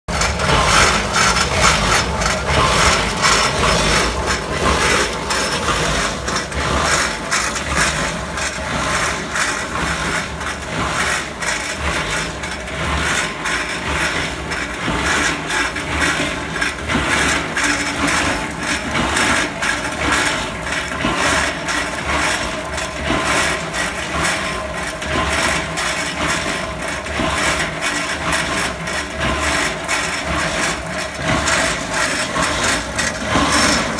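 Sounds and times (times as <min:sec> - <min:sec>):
concrete mixer drive running: 0:00.0 - 0:33.9
gravel rattling in metal tank: 0:00.1 - 0:33.9.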